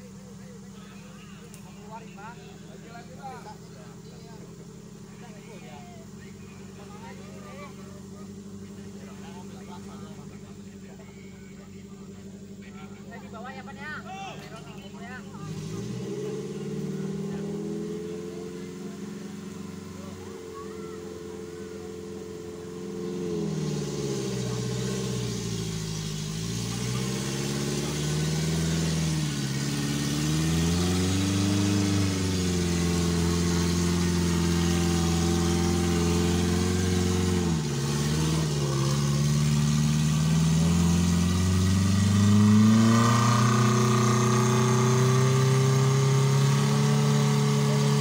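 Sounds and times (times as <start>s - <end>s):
engine revving at low speed: 0.0s - 48.0s.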